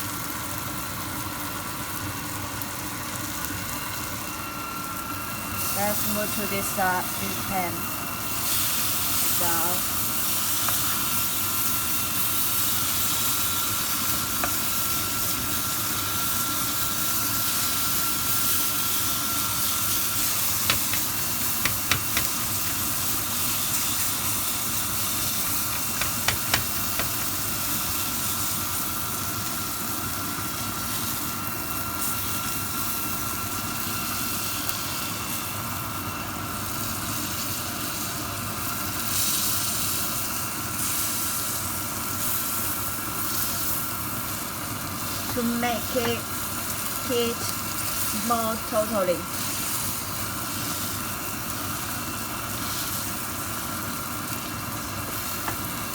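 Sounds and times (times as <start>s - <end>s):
meat sizzling in a frying pan: 0.0s - 55.9s.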